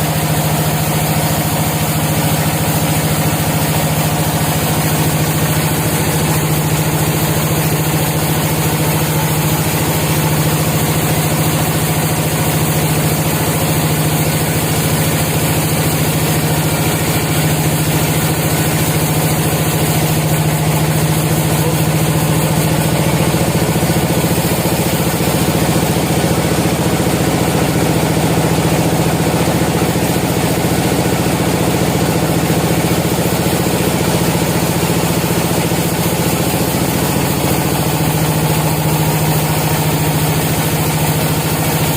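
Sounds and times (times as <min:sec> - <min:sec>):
sawmill machinery droning: 0:00.0 - 0:41.9.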